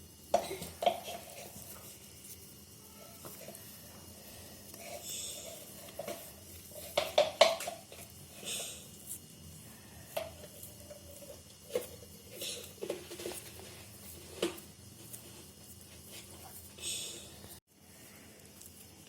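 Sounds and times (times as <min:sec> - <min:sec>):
dough squishing: 0:00.0 - 0:19.0.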